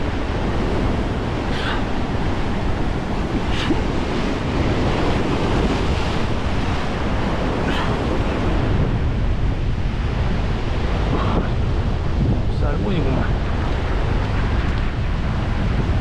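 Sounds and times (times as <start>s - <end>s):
surf breaking over rocks: 0.0s - 16.0s
wind buffeting microphone: 0.0s - 16.0s.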